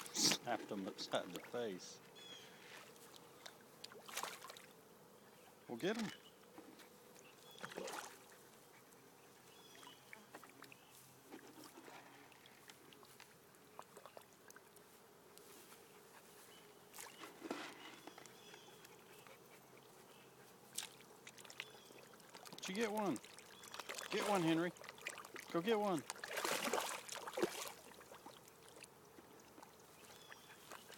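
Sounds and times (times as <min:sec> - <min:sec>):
faint water splashes: 0:00.0 - 0:04.8, 0:05.6 - 0:30.9.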